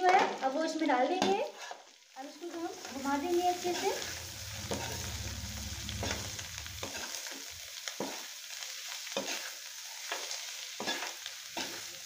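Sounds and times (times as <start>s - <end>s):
food sizzling in oil: 0.4s - 12.0s.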